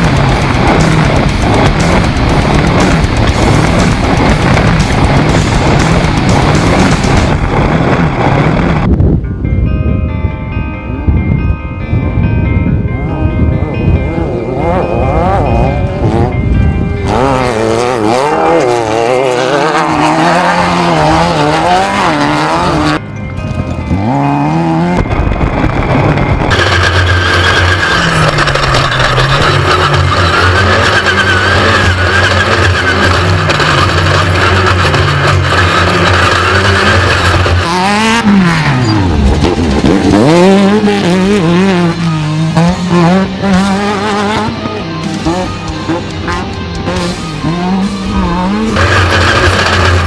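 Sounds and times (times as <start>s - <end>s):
buggy engine revving: 0.0s - 9.0s, 13.6s - 50.0s.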